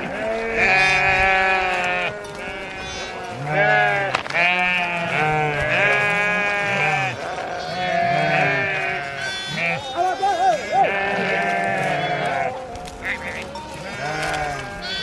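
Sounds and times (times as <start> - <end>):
sheep bleating: 0.0 - 15.0.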